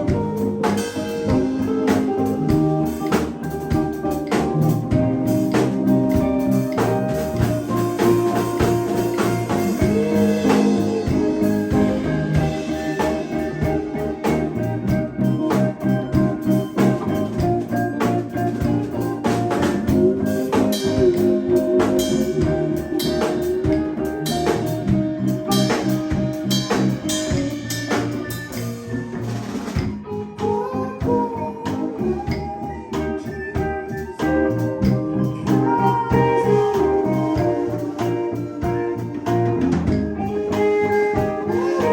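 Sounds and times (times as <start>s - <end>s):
drum kit: 0.0s - 41.9s
guitar: 0.0s - 41.9s
live band playing: 0.0s - 41.9s.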